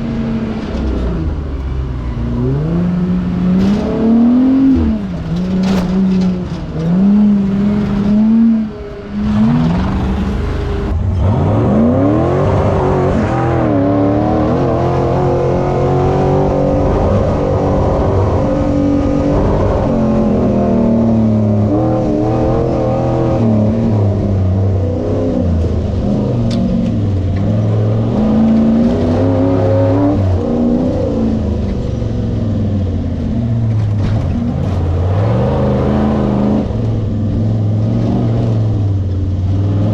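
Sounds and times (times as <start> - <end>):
race vehicle engine revving: 0.0 - 39.9.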